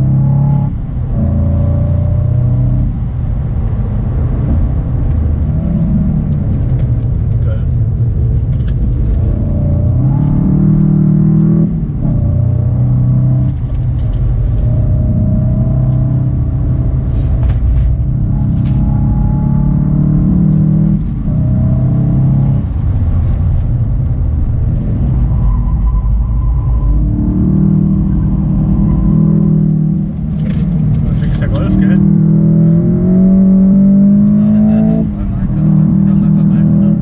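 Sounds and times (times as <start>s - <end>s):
car engine accelerating: 0.0s - 37.0s
road rumble: 0.0s - 37.0s.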